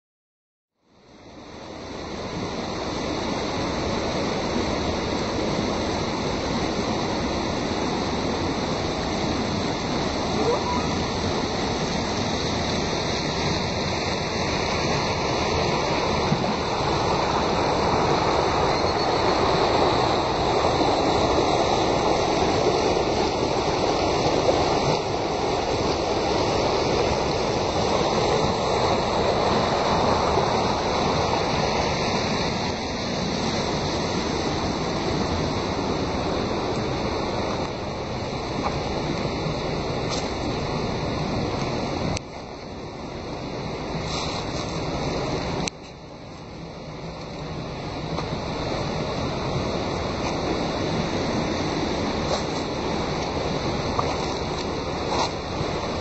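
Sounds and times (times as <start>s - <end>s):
river rushing over rocks: 1.0s - 56.0s.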